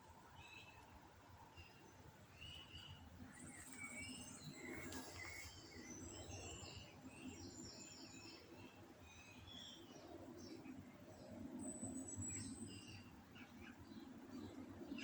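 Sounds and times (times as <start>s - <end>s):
birds chirping and trilling: 1.6s - 15.0s.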